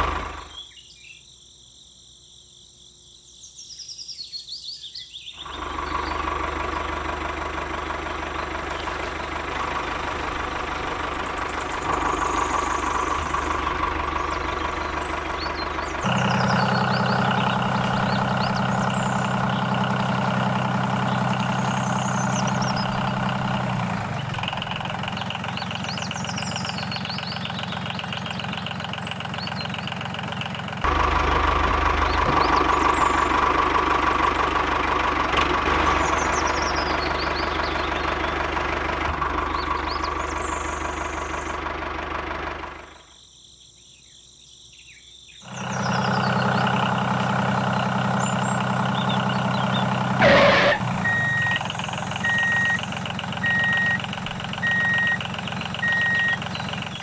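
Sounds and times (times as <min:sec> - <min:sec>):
diesel engine knocking idle: 0:00.0 - 0:00.6, 0:05.4 - 0:43.2, 0:45.4 - 0:57.0
birds chirping faintly: 0:08.1 - 0:30.9, 0:31.6 - 0:41.6, 0:42.8 - 0:57.0.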